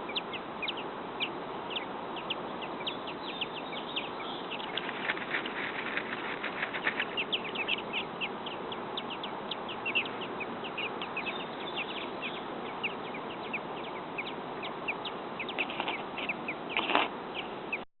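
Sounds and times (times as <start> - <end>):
nestlings begging chirps: 0.0 - 17.8.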